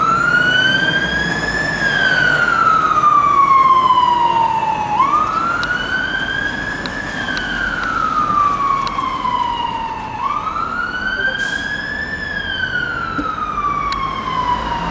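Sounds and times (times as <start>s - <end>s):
fire engine siren wailing: 0.0s - 14.9s.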